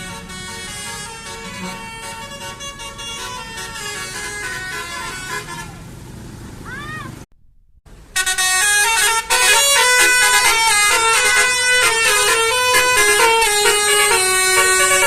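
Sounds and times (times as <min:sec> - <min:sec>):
multi-tone bus horn melody: 0:00.0 - 0:06.0, 0:08.0 - 0:15.0.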